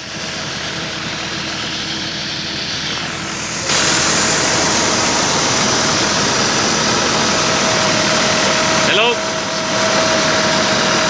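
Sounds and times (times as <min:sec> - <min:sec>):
threshing machine engine running: 0:00.0 - 0:11.0.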